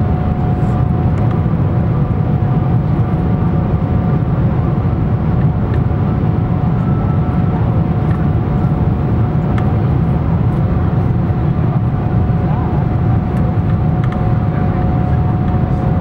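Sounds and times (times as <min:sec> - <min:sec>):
faint steady whine: 0:00.0 - 0:16.0
low rumble of engines and airflow: 0:00.0 - 0:16.0.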